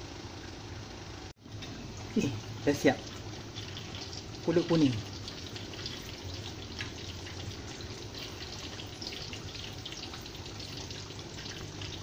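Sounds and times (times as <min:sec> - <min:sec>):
low steady hum: 0:00.0 - 0:12.0
water boiling in a pot: 0:00.0 - 0:12.0.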